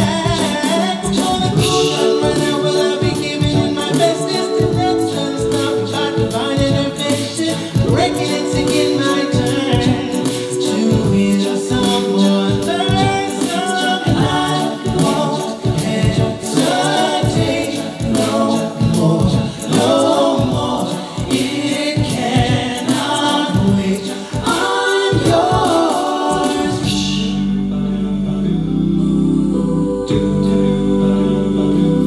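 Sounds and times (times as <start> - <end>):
a cappella group singing in harmony: 0.0 - 32.0.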